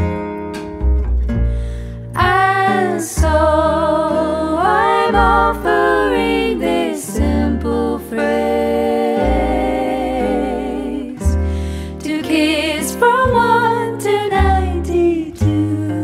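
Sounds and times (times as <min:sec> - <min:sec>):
double bass notes: 0:00.0 - 0:16.0
women singing in harmony: 0:02.2 - 0:16.0.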